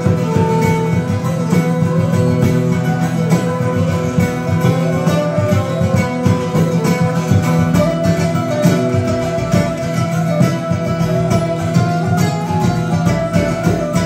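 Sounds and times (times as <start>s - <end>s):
flute long note: 0.0s - 14.0s
frame drum steady beat: 0.0s - 14.0s
strummed acoustic guitar: 0.0s - 14.0s.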